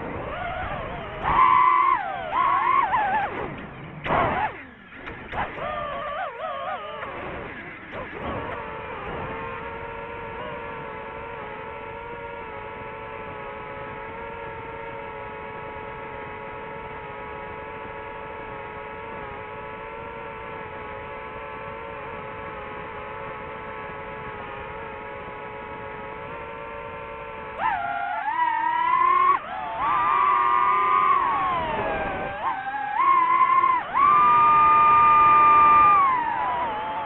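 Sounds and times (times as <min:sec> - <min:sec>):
drone propellers whining: 0:00.0 - 0:37.0.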